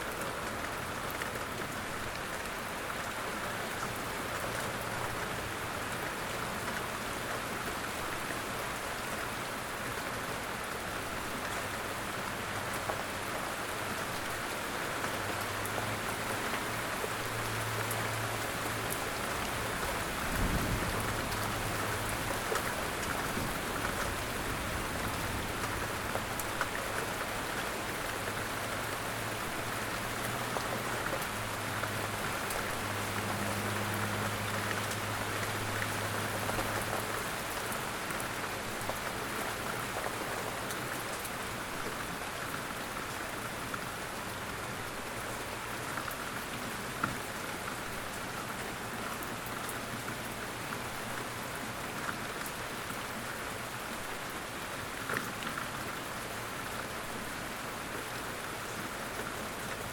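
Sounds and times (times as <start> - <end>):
light rain patter: 0.0 - 59.9.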